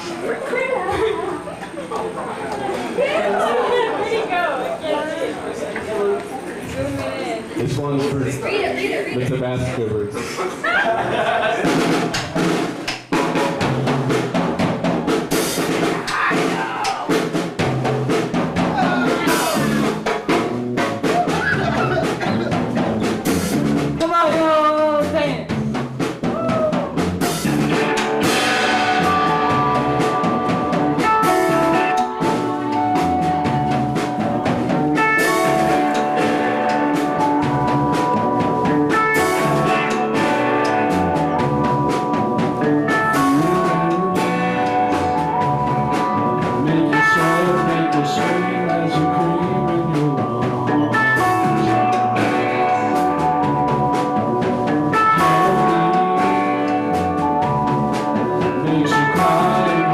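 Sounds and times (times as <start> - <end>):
live band playing: 6.6 - 59.9
drum kit beat: 10.6 - 59.9.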